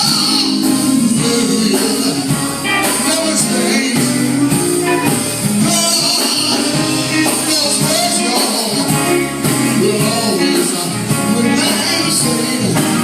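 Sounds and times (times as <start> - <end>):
gospel singing with instruments: 0.0 - 13.0.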